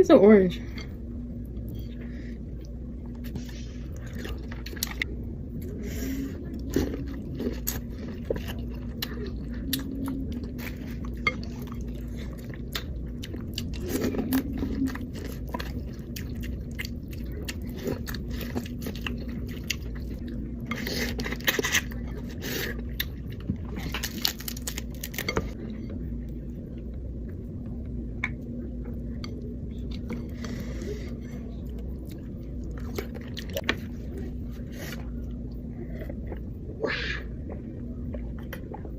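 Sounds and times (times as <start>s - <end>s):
steady low hum: 0.0s - 38.9s
chewing and wet mouth noises: 2.6s - 25.6s, 28.2s - 36.6s, 37.3s - 38.9s.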